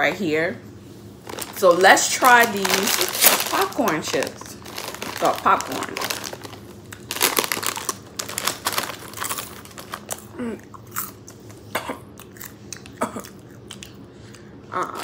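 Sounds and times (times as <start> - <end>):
popcorn chewing: 2.3 - 15.0.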